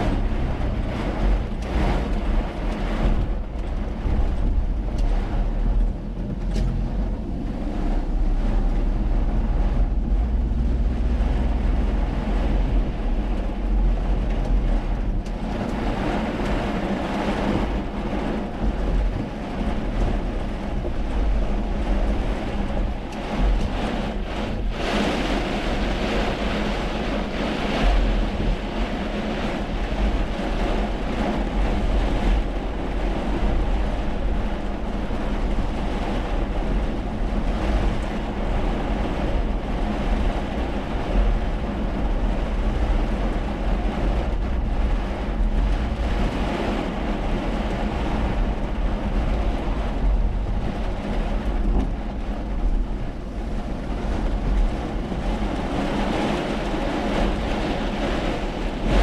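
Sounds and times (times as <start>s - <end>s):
car engine and road rumble: 0.0s - 59.0s
tyres hissing on wet road: 0.0s - 59.0s.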